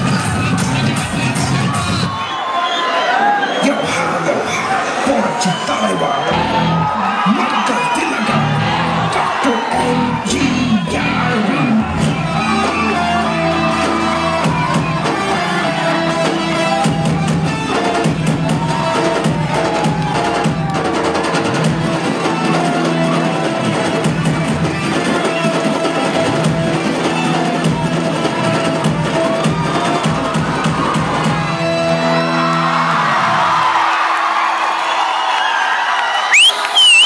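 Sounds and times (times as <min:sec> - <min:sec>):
loud dance music: 0:00.0 - 0:02.4, 0:03.8 - 0:33.8, 0:36.3 - 0:37.0.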